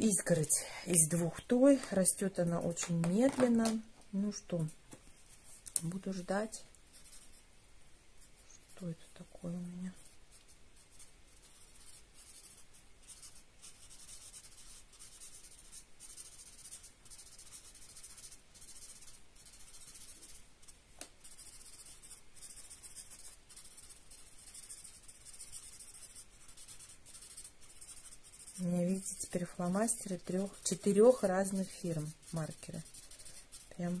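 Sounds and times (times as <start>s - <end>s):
marker scratching on paper: 0.0s - 4.8s, 5.5s - 7.4s, 8.2s - 34.0s.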